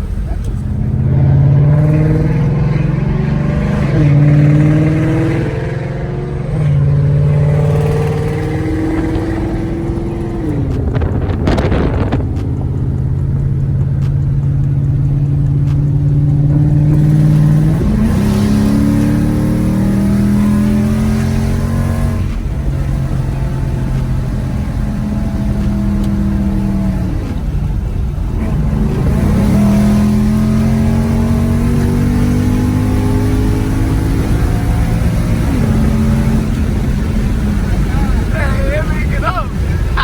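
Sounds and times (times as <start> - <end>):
car engine driving: 0.0 - 40.0.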